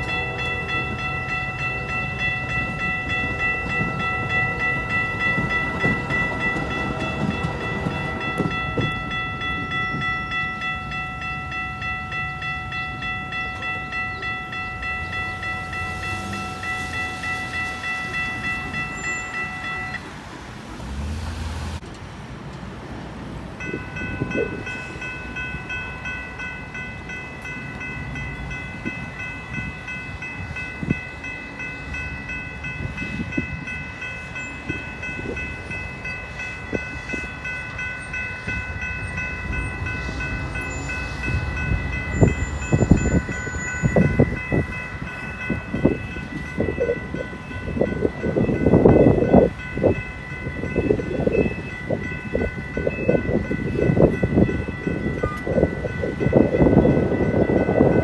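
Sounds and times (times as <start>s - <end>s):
railroad crossing bells ringing: 0.0s - 58.0s
train rumble and wheel clatter: 0.0s - 58.0s.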